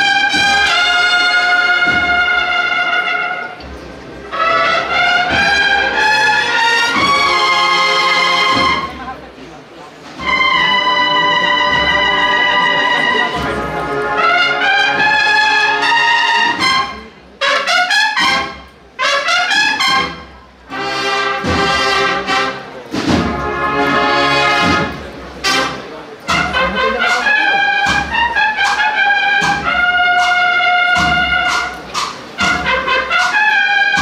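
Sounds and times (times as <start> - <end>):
cornets playing a march: 0.0 - 3.6, 4.2 - 9.0, 10.2 - 34.0
drums: 0.0 - 17.4, 18.0 - 34.0.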